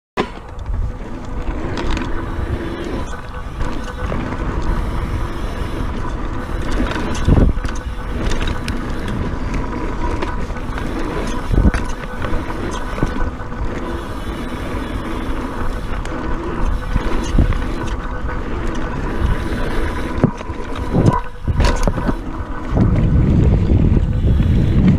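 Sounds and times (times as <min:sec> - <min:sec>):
bike rattling: 0:00.2 - 0:24.9
tyres rumbling on dirt: 0:00.4 - 0:24.9
wind buffeting microphone: 0:00.5 - 0:24.9.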